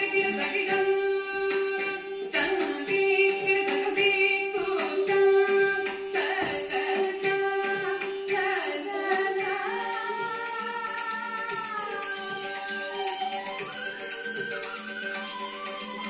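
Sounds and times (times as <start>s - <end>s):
woman singing: 0.0s - 13.8s.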